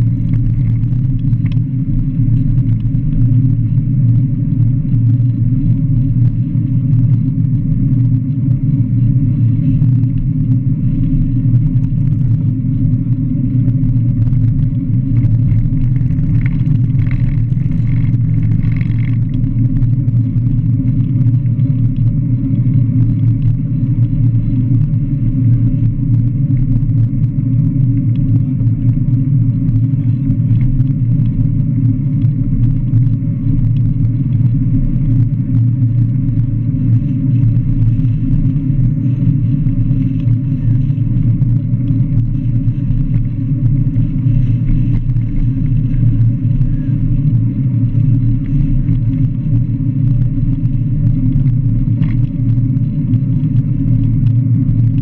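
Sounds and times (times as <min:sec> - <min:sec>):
road noise: 0:00.0 - 0:55.0
wind rumble: 0:00.0 - 0:55.0.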